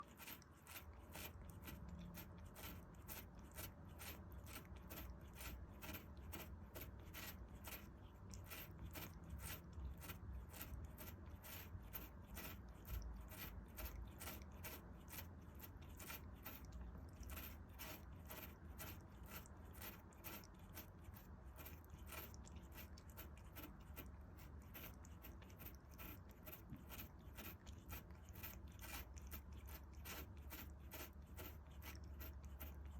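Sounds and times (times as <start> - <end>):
cat crunching a hard treat: 0.0 - 32.9.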